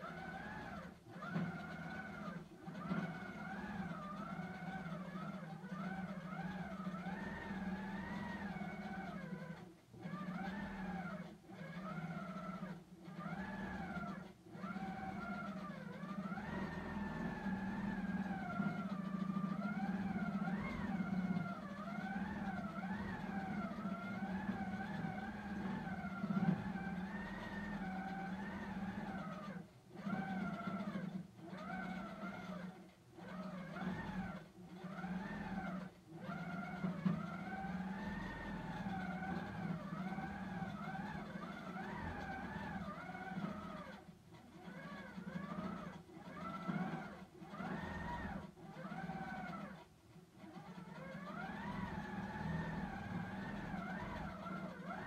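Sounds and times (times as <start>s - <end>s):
quilting machine motor whining: 0.0s - 55.0s.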